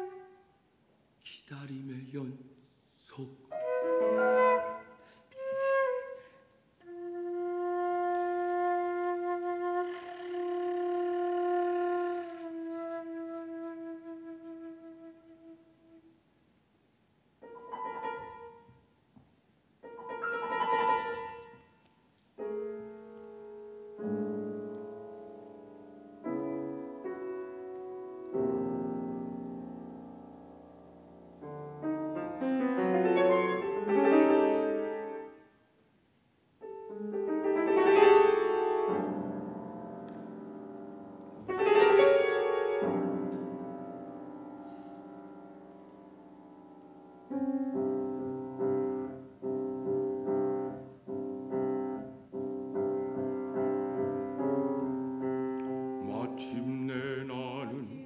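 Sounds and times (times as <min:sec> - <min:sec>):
grand piano chords: 0:03.5 - 0:06.0, 0:06.8 - 0:16.0, 0:17.4 - 0:18.9, 0:19.8 - 0:21.8, 0:22.4 - 0:35.6, 0:36.6 - 0:58.0.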